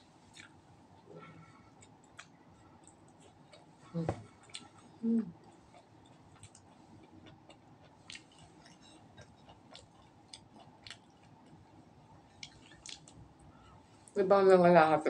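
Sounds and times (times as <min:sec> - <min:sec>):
faint chewing: 0:00.2 - 0:14.2.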